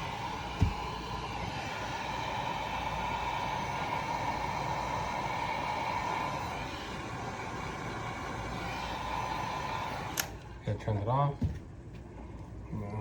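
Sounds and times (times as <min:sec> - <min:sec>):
heat gun blowing: 0:00.0 - 0:10.4.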